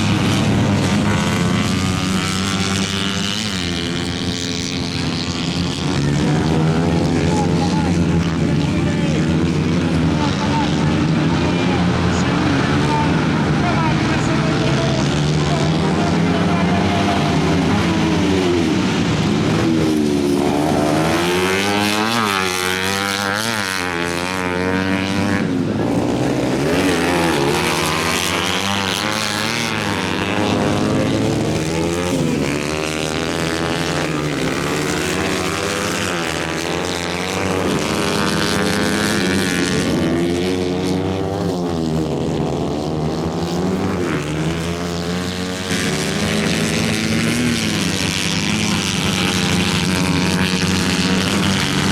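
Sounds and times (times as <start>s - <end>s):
engine running with wavering pitch: 0.0s - 51.9s.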